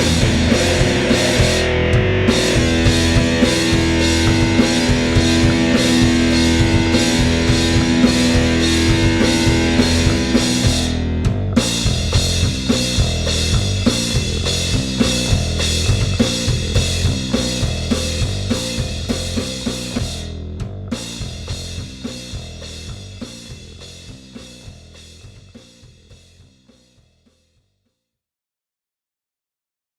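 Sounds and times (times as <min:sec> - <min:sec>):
distorted guitars: 0:00.0 - 0:24.8
drum kit beat: 0:00.0 - 0:26.6
bass guitar: 0:00.0 - 0:27.3.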